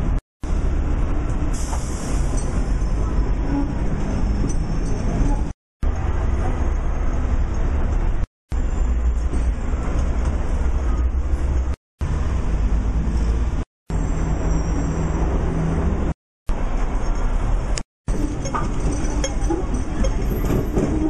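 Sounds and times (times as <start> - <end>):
tram rumbling: 0.0 - 21.0.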